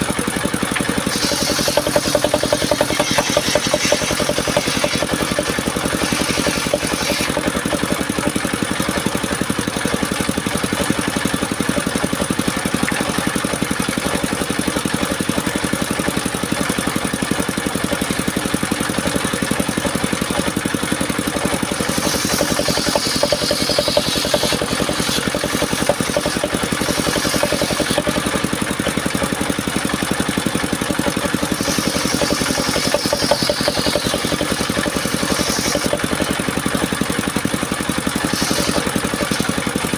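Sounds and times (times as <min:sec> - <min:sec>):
saw blade cutting wood: 0:00.0 - 0:39.9
sawmill engine running: 0:00.0 - 0:39.9.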